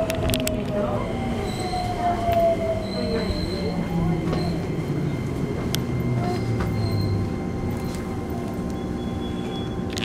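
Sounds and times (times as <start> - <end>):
wheel and rail running noise: 0.0 - 10.0
train inverter whine falling in pitch: 1.3 - 10.0.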